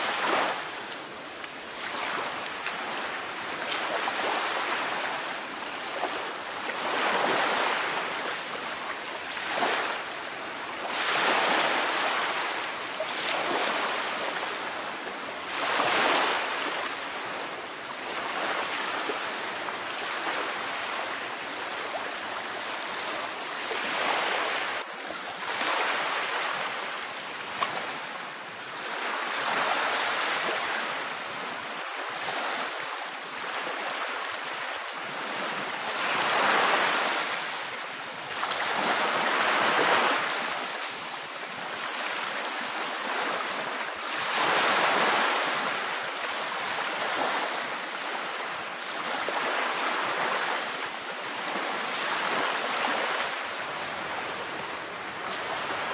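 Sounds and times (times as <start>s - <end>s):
waves breaking on beach: 0.0s - 55.9s.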